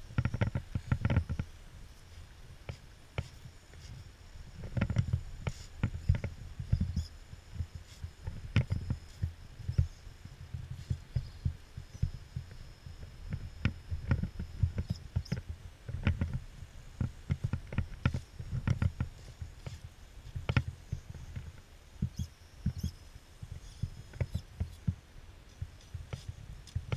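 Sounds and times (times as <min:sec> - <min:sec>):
faint high whine: 0:00.0 - 0:26.9.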